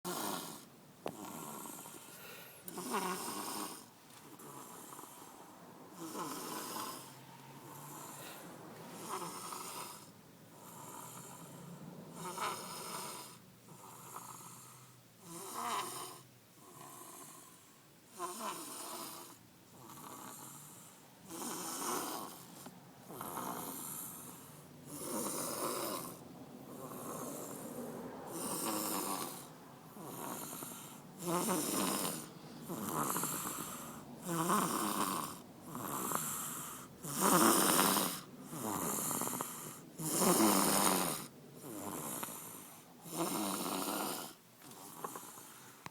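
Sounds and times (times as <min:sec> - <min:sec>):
quiet breaths: 0:00.0 - 0:45.9
person snoring: 0:00.1 - 0:45.6.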